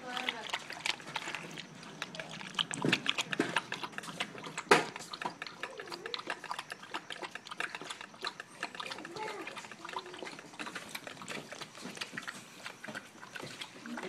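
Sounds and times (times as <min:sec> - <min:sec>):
puppy lapping water: 0:00.0 - 0:14.0.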